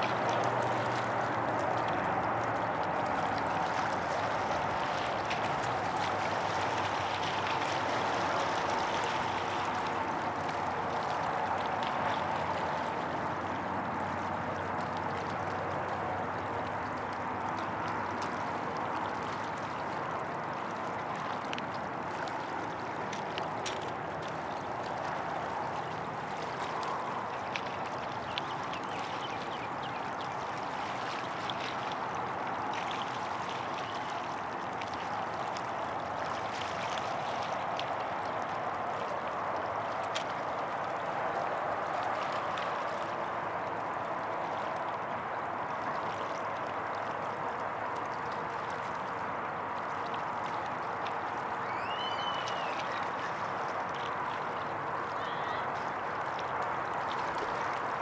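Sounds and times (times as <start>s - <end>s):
river water rushing: 0.0s - 58.0s
water splashes and trickles: 0.0s - 58.0s.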